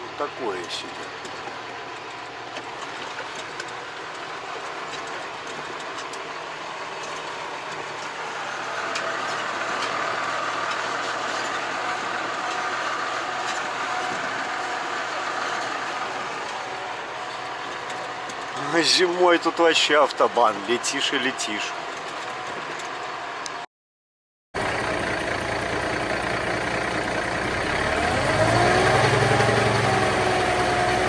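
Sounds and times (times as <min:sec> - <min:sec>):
truck engine and road noise: 0:00.0 - 0:23.7, 0:24.6 - 0:31.0.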